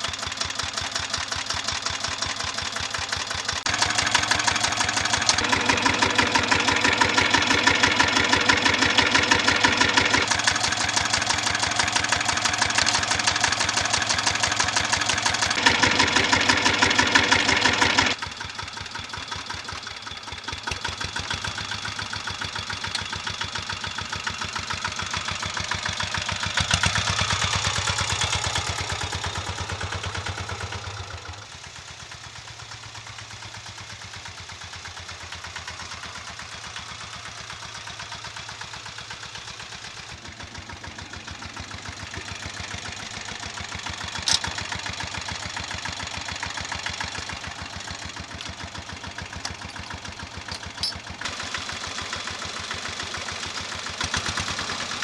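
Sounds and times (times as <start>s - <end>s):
small diesel engine chugging: 0.0s - 55.0s.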